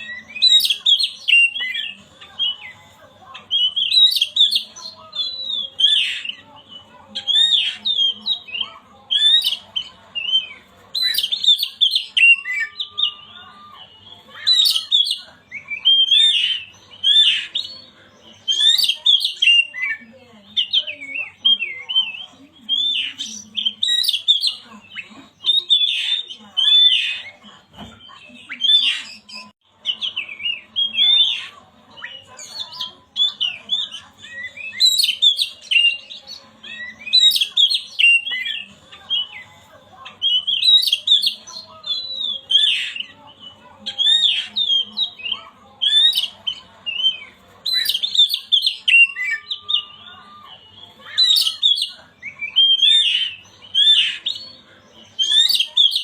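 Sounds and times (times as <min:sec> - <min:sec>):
bird singing chirps and whistles: 0:00.0 - 0:02.8, 0:03.5 - 0:27.4, 0:28.3 - 0:39.5, 0:40.2 - 0:56.0.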